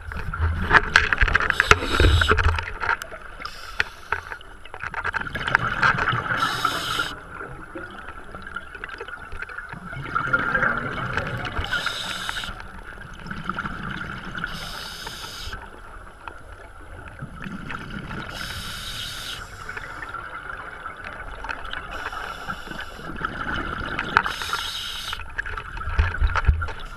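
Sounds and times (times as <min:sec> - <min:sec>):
exhaled bubbles underwater: 0:00.0 - 0:03.6, 0:04.4 - 0:26.9
steady underwater hiss: 0:00.7 - 0:04.8, 0:05.4 - 0:07.8, 0:10.2 - 0:25.6.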